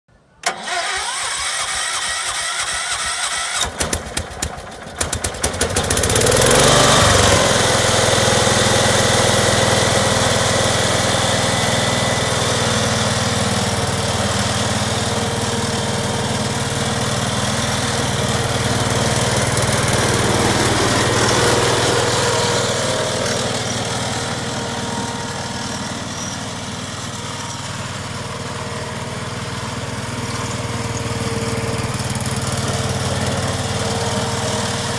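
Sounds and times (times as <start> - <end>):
tractor engine cranking and running: 0.4 - 34.9.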